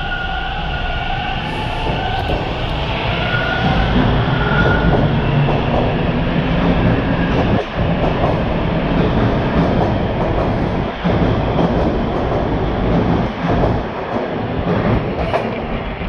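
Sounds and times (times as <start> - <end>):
subway train rumbling past: 0.0 - 16.0.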